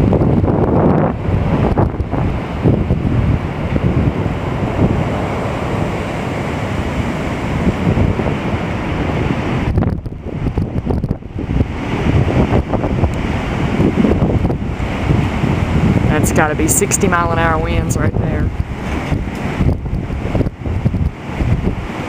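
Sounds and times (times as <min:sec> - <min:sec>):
storm wind buffeting microphone: 0:00.0 - 0:22.0.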